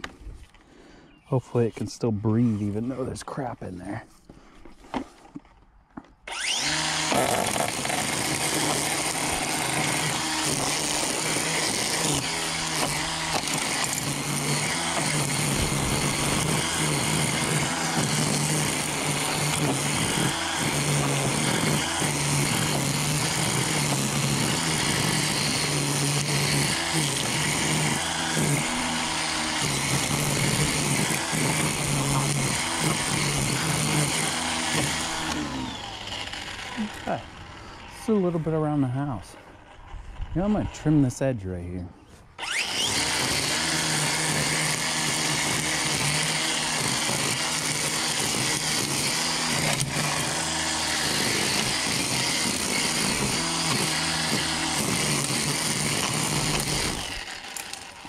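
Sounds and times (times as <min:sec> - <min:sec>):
cordless string trimmer whirring: 0:04.6 - 0:41.1, 0:42.0 - 0:58.0.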